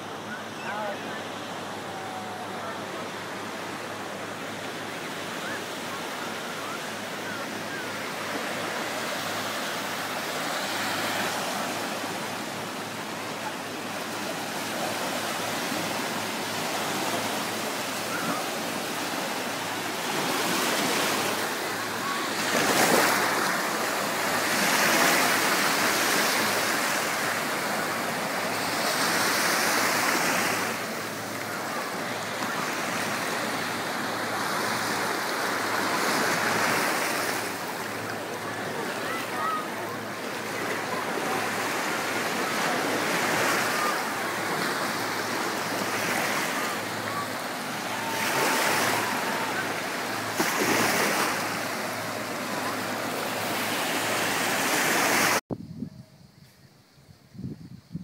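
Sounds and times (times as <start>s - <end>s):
sea waves lapping on beach: 0.0s - 55.4s.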